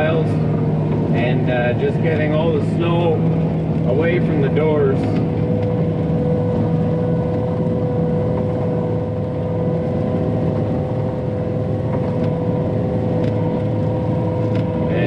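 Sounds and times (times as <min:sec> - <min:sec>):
skid steer diesel engine: 0:00.0 - 0:15.0
steady whine: 0:00.0 - 0:15.0.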